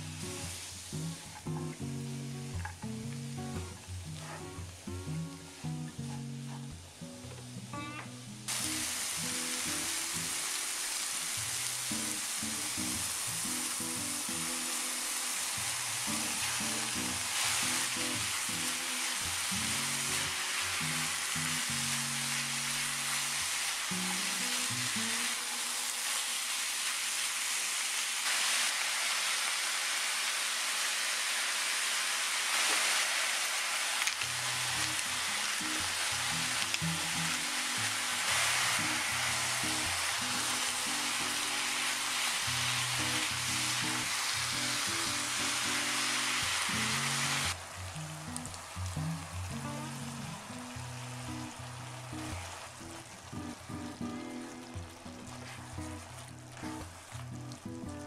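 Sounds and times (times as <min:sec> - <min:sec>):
vegetables and meat sizzling in pan: 0:00.0 - 0:58.0.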